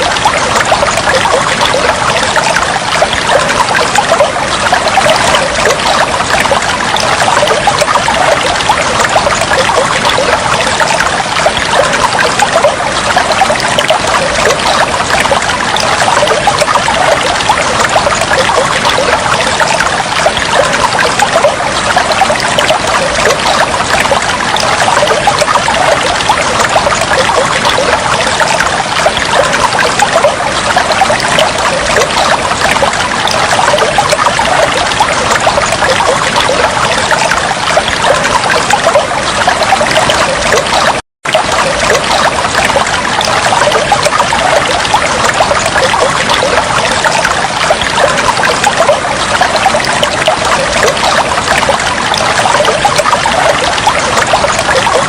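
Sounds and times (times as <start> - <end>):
water trickling and bubbling: 0.0 - 55.0.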